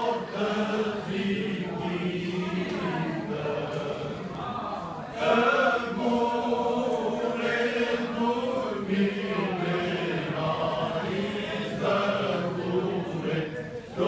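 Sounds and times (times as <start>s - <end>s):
men's choir chanting unaccompanied: 0.0s - 14.0s.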